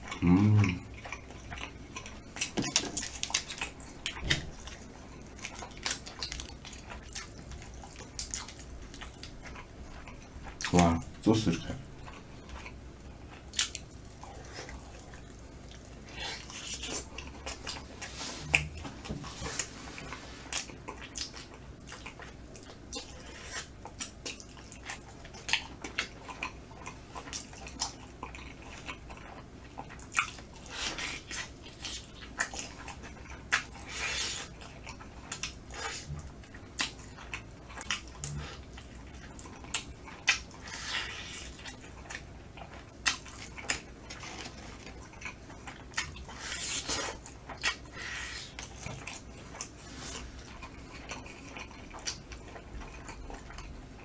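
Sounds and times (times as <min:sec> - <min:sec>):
biting and chewing meat: 0:00.0 - 0:54.0.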